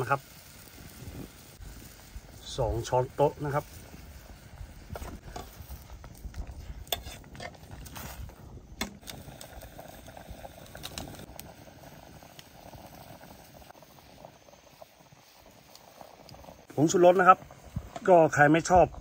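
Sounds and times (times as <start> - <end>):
curry bubbling in pot: 0.0 - 19.0.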